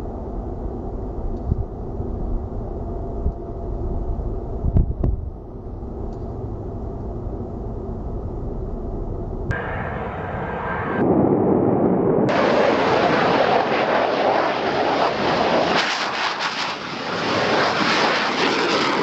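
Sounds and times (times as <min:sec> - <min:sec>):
jet aircraft rumble: 0:00.0 - 0:19.0.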